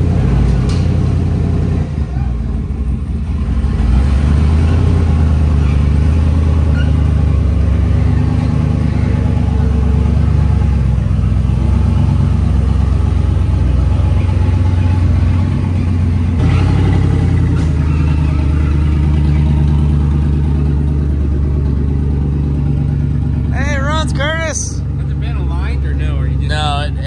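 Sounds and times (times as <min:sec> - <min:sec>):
loud truck engine running: 0:00.0 - 0:27.0.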